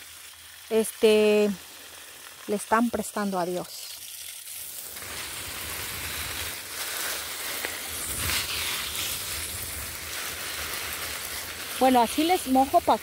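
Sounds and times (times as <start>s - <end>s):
hose spraying water on leaves: 0.0s - 13.0s.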